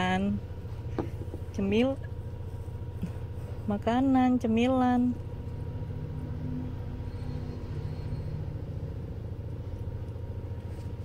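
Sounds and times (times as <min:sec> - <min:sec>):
car engine rumble inside cabin: 0:00.0 - 0:11.0
faint even hum: 0:00.0 - 0:11.0.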